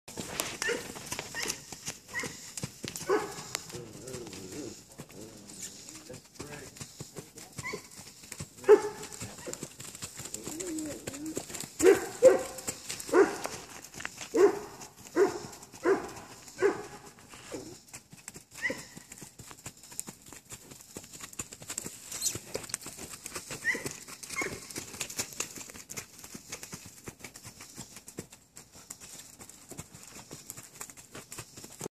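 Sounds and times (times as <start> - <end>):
horse hoofbeats on dirt: 0.1 - 31.9.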